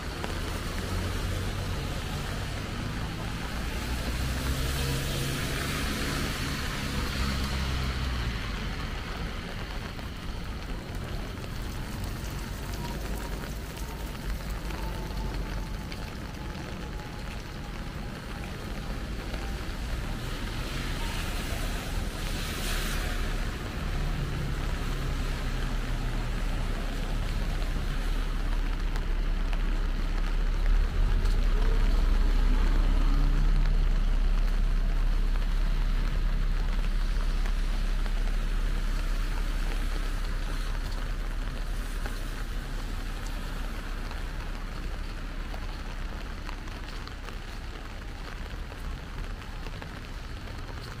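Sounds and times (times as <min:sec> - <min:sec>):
car tyres hissing on wet road: 0:00.0 - 0:51.0.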